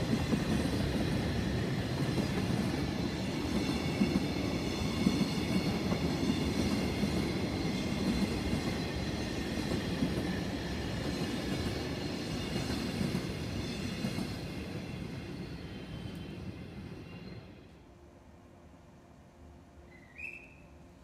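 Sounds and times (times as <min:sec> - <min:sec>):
freight train wheels rumbling: 0:00.0 - 0:17.6.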